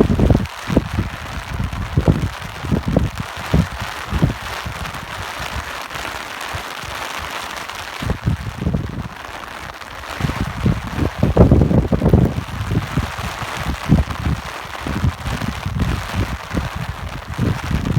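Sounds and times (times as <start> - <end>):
rain hissing: 0.0 - 17.9
wind rumbling on microphone: 0.0 - 17.9.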